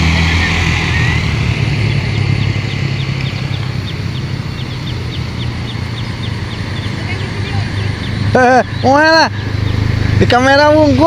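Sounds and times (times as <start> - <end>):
large vehicle engine running: 0.0 - 11.0
traffic passing: 0.0 - 11.0.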